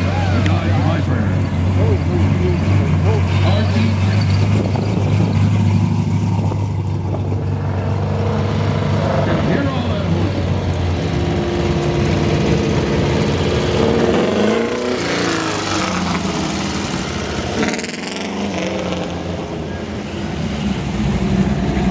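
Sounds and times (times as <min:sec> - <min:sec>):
cars driving past: 0:00.0 - 0:21.9
race car engine passing: 0:00.0 - 0:21.9.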